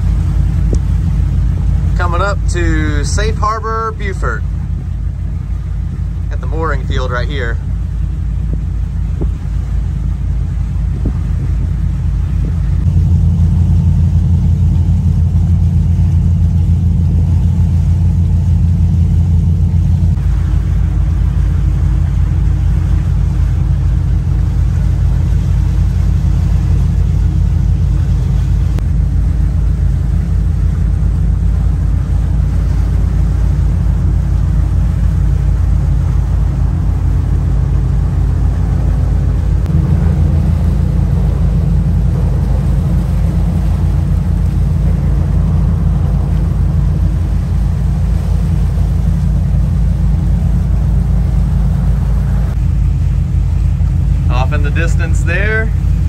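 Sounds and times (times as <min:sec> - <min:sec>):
boat engine rumbling: 0:00.0 - 0:56.0.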